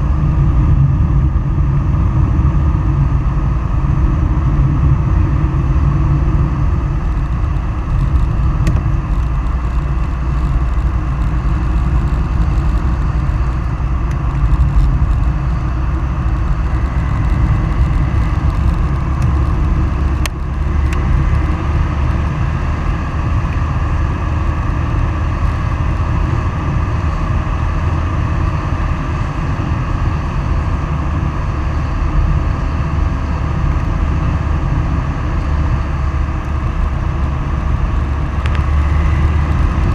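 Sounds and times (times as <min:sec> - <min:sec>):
road rumble: 0:00.0 - 0:39.9
wind rushing on microphone: 0:00.0 - 0:39.9.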